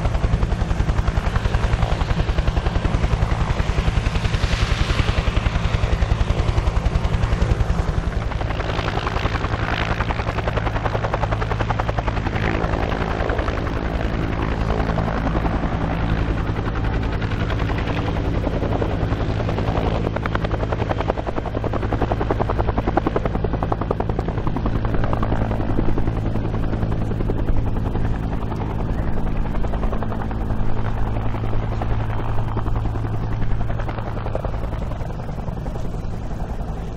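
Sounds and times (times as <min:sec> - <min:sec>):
helicopter rotor running: 0:00.0 - 0:36.9.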